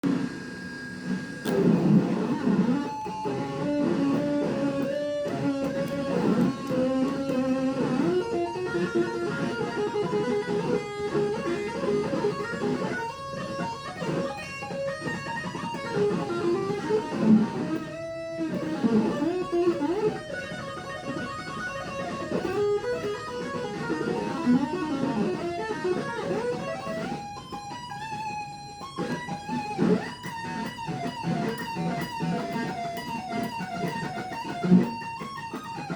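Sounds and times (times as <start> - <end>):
electric guitar lead with bent notes: 0.0 - 35.9.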